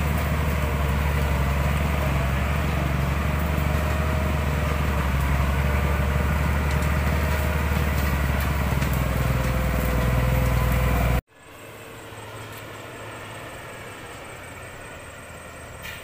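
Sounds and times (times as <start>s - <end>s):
faint engine hum: 0.0s - 16.0s
truck engine deep note: 0.0s - 16.0s.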